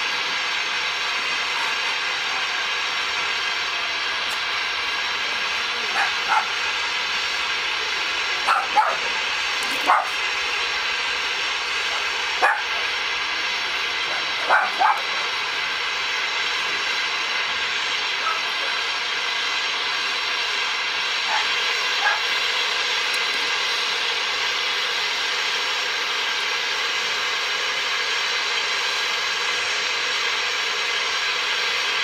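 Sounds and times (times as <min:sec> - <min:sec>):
gas torch flame hissing: 0:00.0 - 0:32.0.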